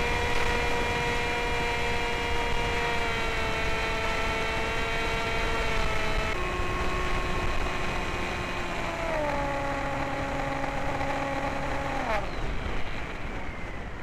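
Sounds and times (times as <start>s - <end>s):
electric motor and propeller whine: 0.0s - 14.0s
rushing wind: 0.0s - 14.0s.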